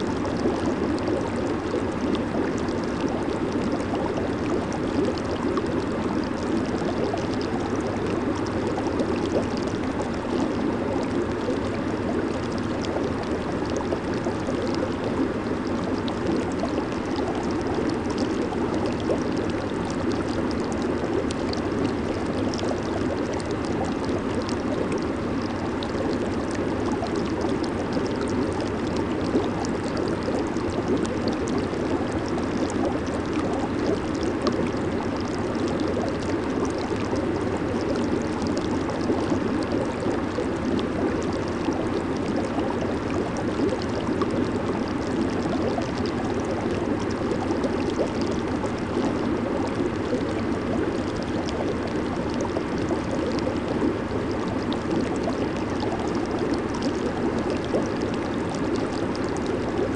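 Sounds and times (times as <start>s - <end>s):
hot tub jets bubbling water: 0.0s - 59.9s.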